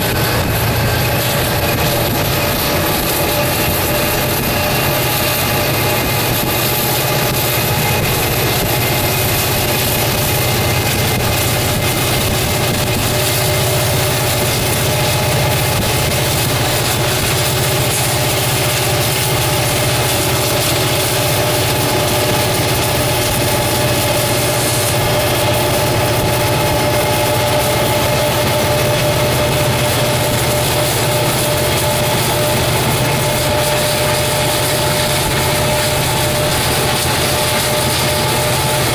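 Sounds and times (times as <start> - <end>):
diesel locomotive engine and rolling: 0.0 - 38.9.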